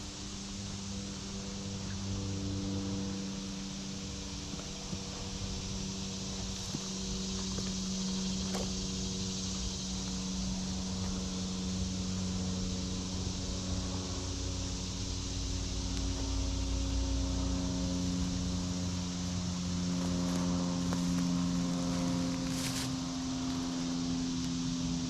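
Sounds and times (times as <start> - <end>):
distant engine droning: 0.0 - 25.0
outdoor hiss: 0.0 - 25.0.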